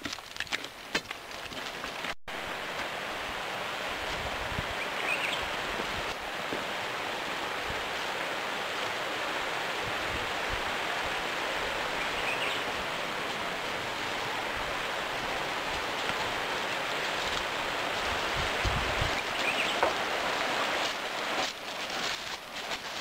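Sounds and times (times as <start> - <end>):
steady rushing outdoor noise: 1.8 - 23.0.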